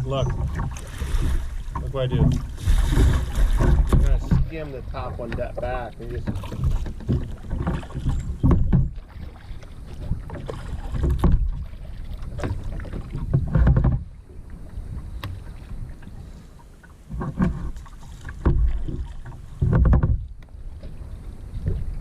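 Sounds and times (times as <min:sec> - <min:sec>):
kayak paddle splashing: 0:00.0 - 0:22.0.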